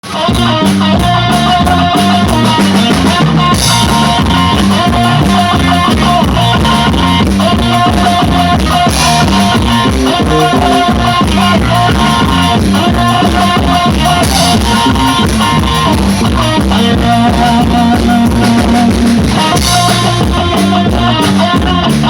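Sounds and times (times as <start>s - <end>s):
band playing instrumental music: 0.0s - 22.0s
drum kit beat: 0.0s - 22.0s.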